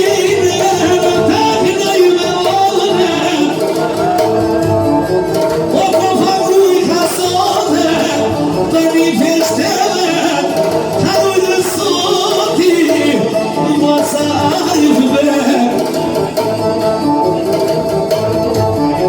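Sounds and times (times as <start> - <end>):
ornamented folk music playing loudly: 0.0 - 19.0.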